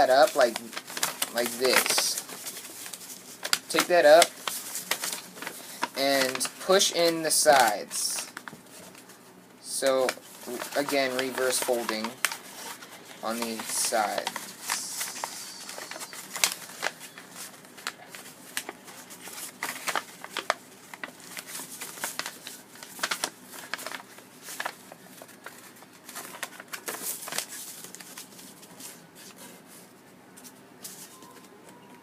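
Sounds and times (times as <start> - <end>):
paper rustling and crinkling: 0.0 - 31.8.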